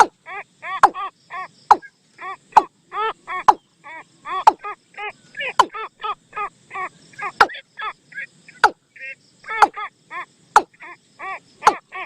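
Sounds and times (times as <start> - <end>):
bird nasal call notes: 0.0 - 12.0.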